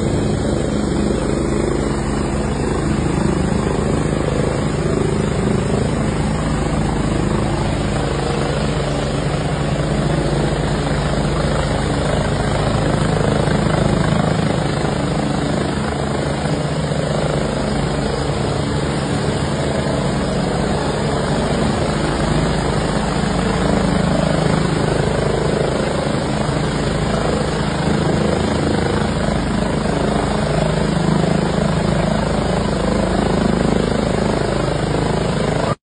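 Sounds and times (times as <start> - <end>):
helicopter rotor beating: 0.0 - 35.8.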